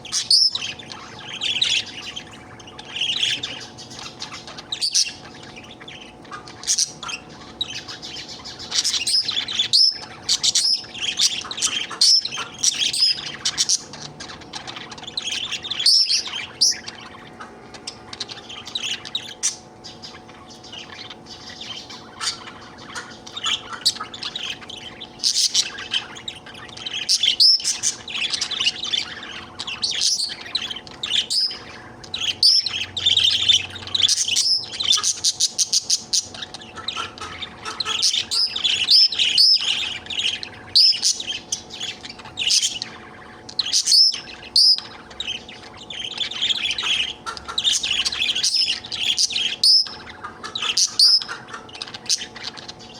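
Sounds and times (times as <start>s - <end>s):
budgerigar chattering and chirping: 0.0s - 52.9s.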